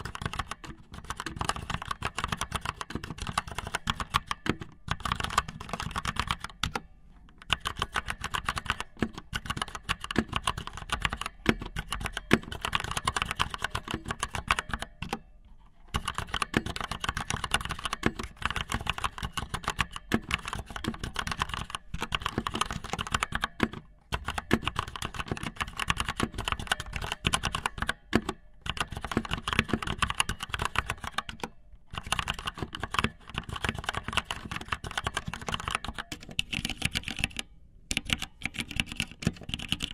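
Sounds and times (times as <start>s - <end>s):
rapid clicking and tapping: 0.0s - 6.8s, 7.4s - 15.2s, 15.9s - 39.9s.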